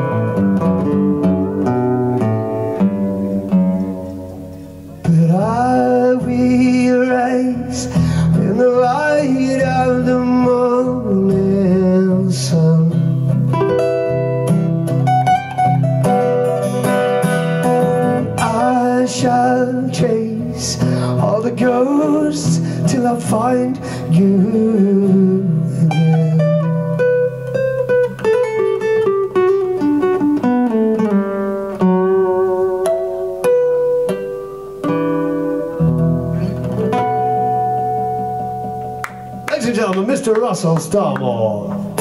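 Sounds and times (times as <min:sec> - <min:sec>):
two acoustic guitars playing: 0:00.0 - 0:42.0.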